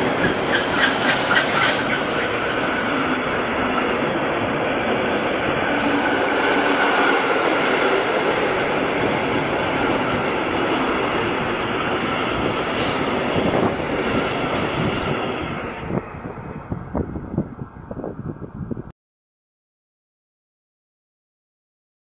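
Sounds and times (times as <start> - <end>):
freight train passing: 0.0 - 18.9.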